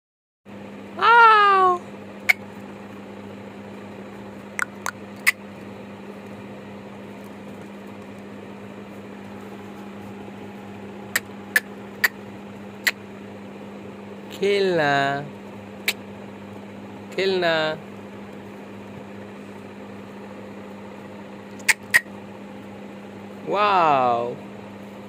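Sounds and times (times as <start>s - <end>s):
steady low hum: 0.5s - 25.0s.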